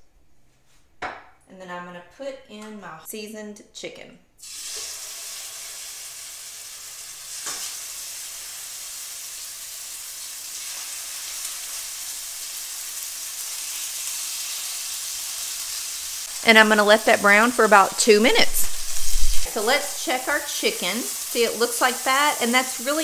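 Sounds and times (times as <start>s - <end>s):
chicken sizzling in oil: 4.4s - 23.0s.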